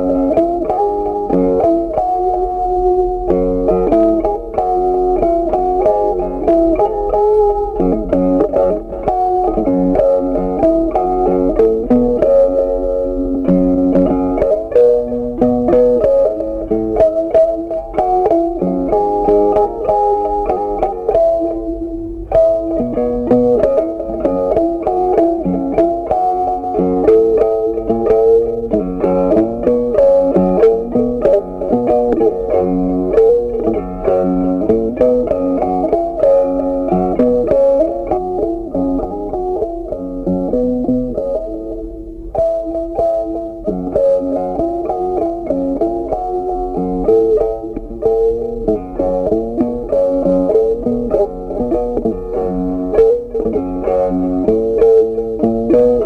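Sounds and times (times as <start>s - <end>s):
plucked guitar melody: 0.0s - 56.0s.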